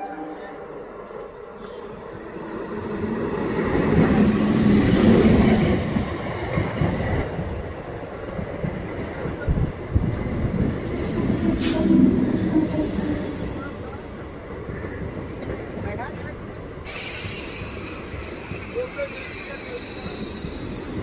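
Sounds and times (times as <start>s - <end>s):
electric train rumbling past: 0.0s - 21.0s.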